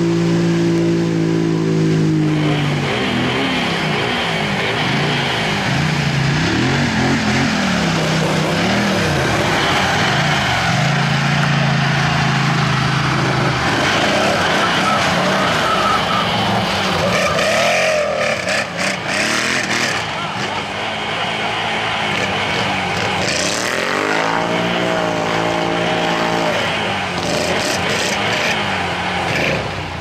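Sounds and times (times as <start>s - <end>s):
quad bike engines revving: 0.0s - 30.0s.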